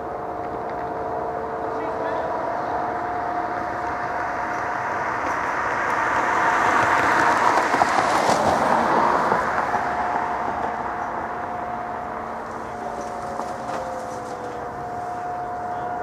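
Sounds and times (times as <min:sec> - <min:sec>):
steady distant tone: 0:00.0 - 0:16.0
vehicle passing: 0:00.0 - 0:16.0.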